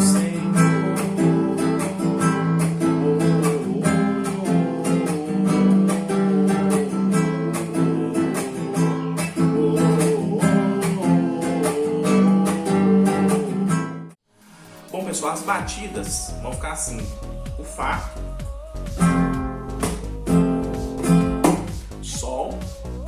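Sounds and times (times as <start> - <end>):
acoustic guitar strumming: 0.0 - 22.3.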